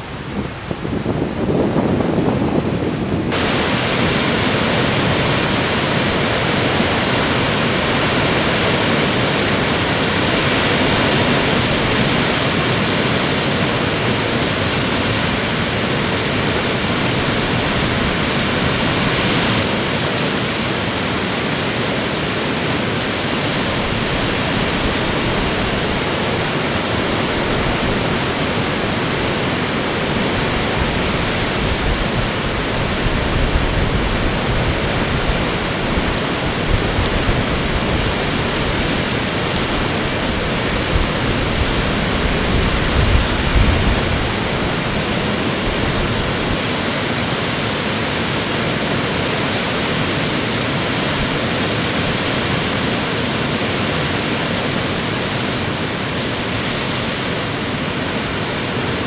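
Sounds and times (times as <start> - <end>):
storm waves breaking on shore: 0.0 - 59.0.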